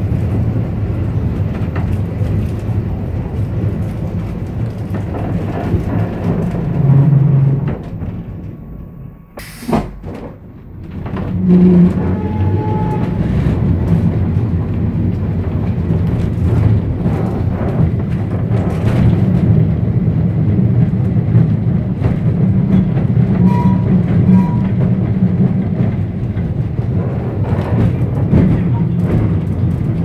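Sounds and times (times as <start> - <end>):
tram motors and wheels rumbling: 0.0 - 30.0.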